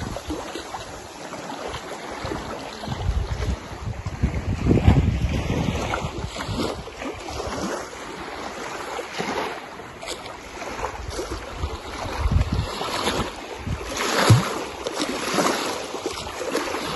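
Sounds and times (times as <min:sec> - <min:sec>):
wind on microphone: 0:00.0 - 0:08.5, 0:09.1 - 0:16.9
water lapping against boat: 0:00.0 - 0:16.9.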